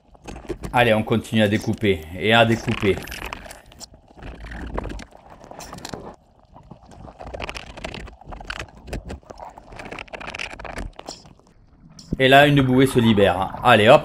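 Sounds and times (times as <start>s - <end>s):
low rumble of water: 0.0s - 14.0s.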